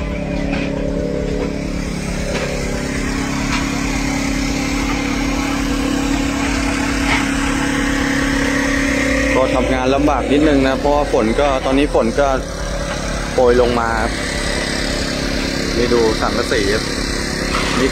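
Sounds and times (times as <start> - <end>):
generator engine running: 0.0 - 17.9.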